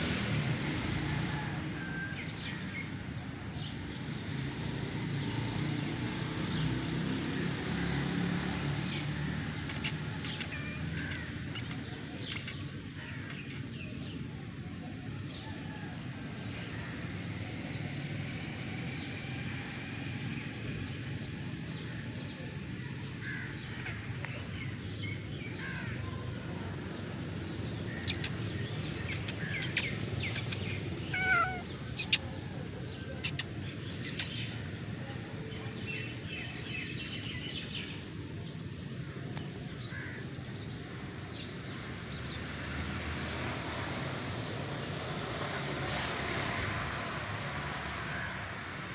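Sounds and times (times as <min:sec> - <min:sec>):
small birds chirping: 0:02.2 - 0:42.8.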